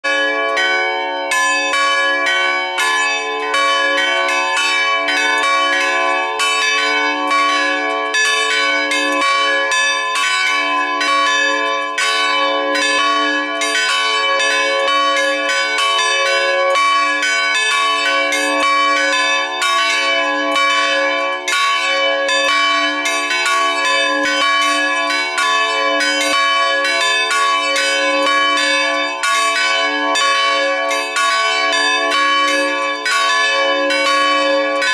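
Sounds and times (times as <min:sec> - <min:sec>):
church bells ringing: 0:00.0 - 0:34.9.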